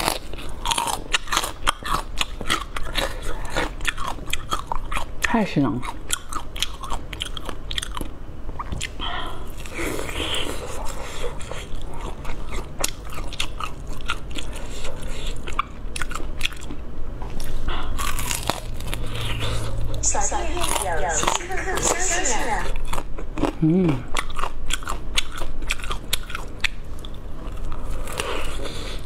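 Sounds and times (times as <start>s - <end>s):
crispy pork crunching: 0.0s - 19.8s, 22.8s - 29.0s.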